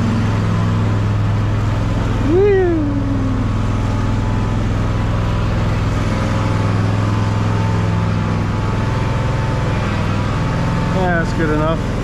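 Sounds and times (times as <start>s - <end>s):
riding lawnmower engine humming: 0.0s - 12.0s.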